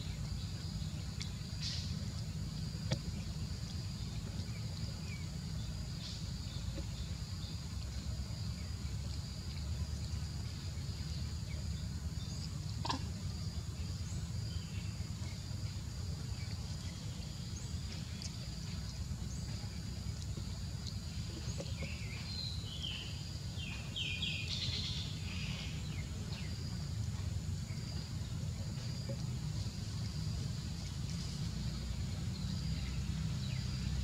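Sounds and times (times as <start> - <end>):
insect drone: 0.0 - 34.0.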